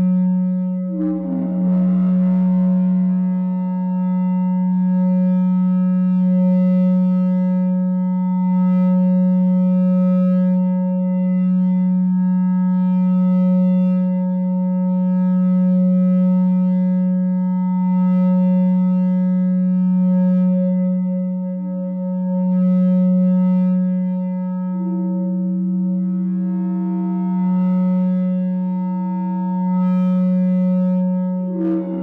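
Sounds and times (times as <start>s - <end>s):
mixer feedback drone: 0.0s - 32.0s.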